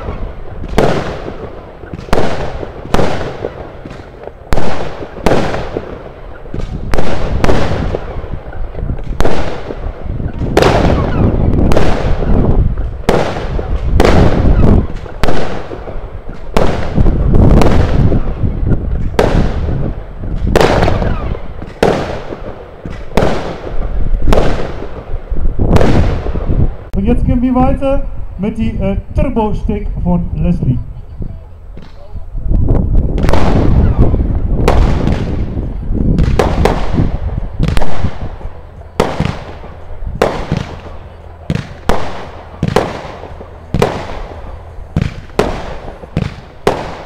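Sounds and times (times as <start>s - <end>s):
firework battery bangs: 0.0s - 26.7s, 33.0s - 47.0s.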